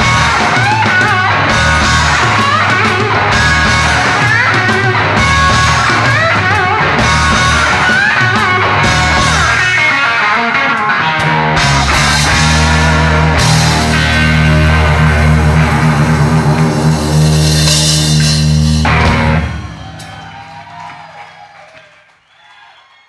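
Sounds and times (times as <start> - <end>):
rock band playing live: 0.0 - 21.4.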